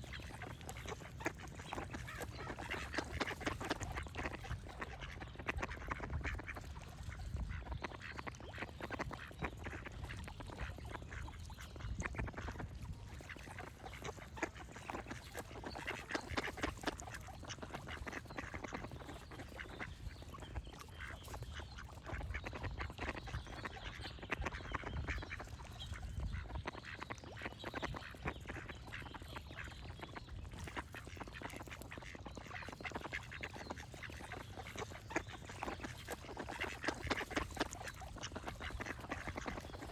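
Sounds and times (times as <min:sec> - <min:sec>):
birds singing: 0:00.0 - 0:06.4, 0:13.3 - 0:39.9
ducks quacking: 0:00.0 - 0:39.9.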